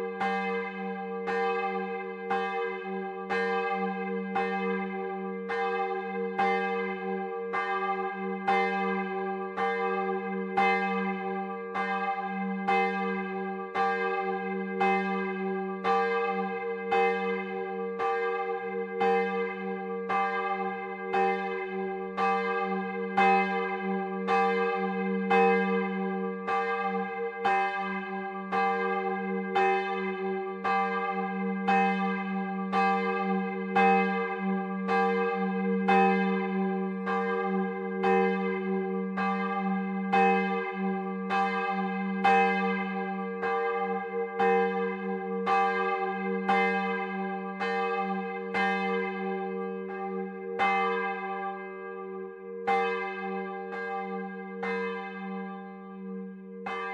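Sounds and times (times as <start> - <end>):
large church bell ringing: 0.0 - 56.9.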